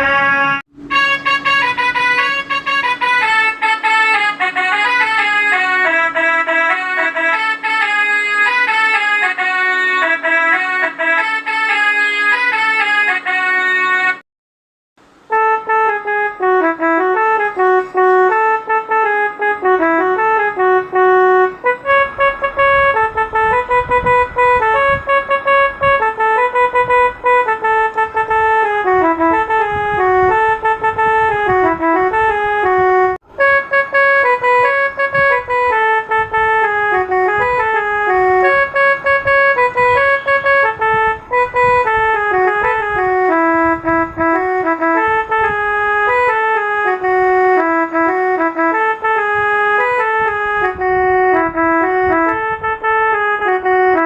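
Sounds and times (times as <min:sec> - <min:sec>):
organ-like electronic keyboard melody: 0:00.0 - 0:14.2, 0:15.3 - 0:54.0.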